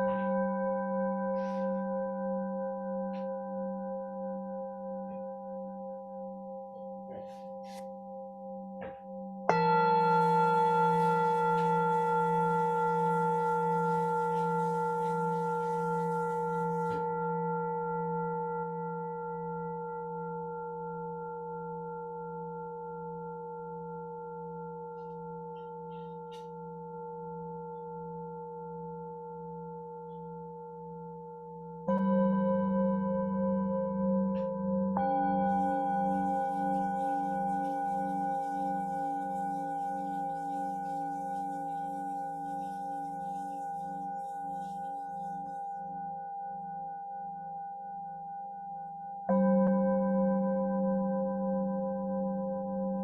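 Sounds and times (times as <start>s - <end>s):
singing bowl struck: 0.0s - 53.0s
singing bowls ringing: 0.0s - 53.0s.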